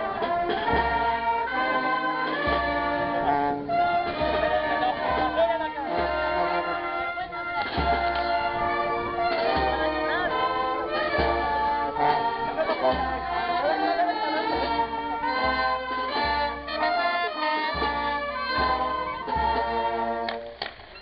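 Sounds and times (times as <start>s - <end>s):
singing voices: 0.0s - 20.3s
sustained chords: 0.0s - 20.4s.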